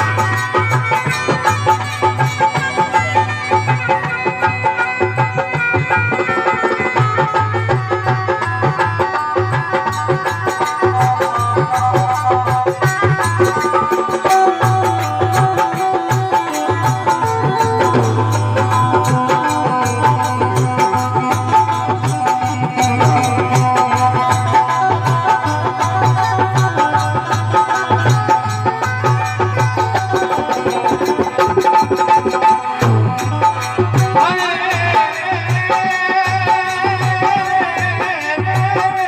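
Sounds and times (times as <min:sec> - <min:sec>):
hand drum beat: 0:00.0 - 0:39.0.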